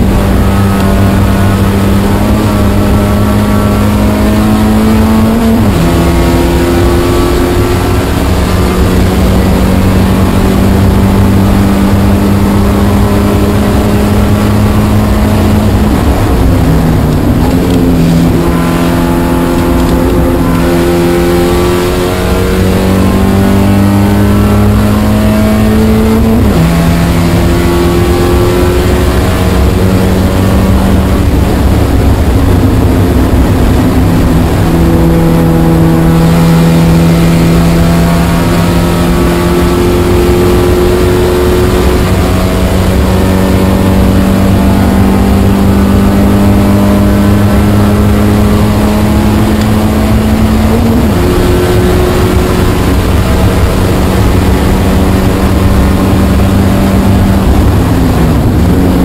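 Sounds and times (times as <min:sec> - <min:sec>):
car engine under load: 0:00.0 - 0:59.0
road and wind noise: 0:00.0 - 0:59.0.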